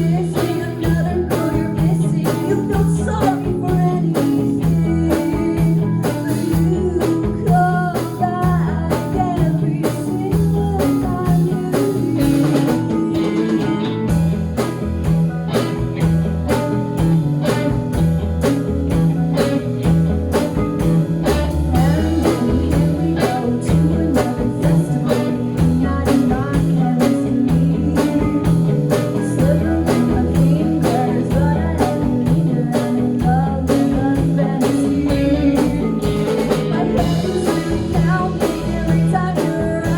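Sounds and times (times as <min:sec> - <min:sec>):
bass: 0:00.0 - 0:39.9
blues guitar line: 0:00.0 - 0:39.9
drum kit: 0:00.0 - 0:39.9.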